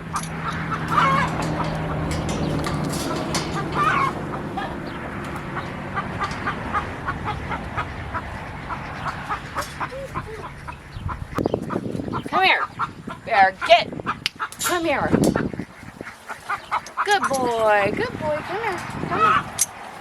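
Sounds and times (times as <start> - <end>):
steady low hum: 0.0 - 18.4
chickens clucking: 0.0 - 20.0.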